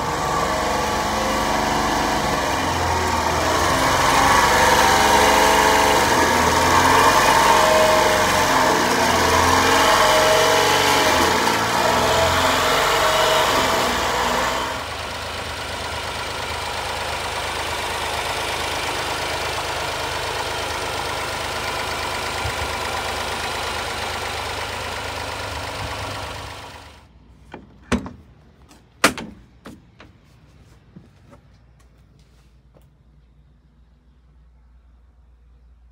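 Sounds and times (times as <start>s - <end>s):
small truck engine idling: 0.0s - 30.8s.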